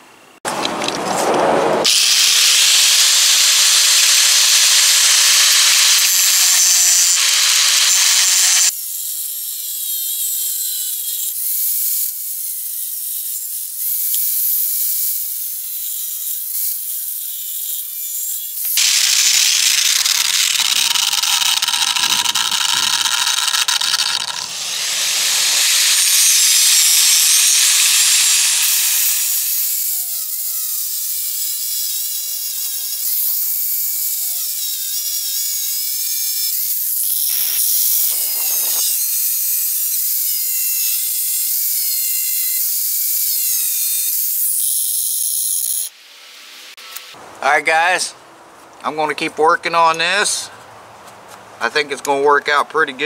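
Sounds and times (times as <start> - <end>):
angle grinder cutting steel: 1.8 - 45.9.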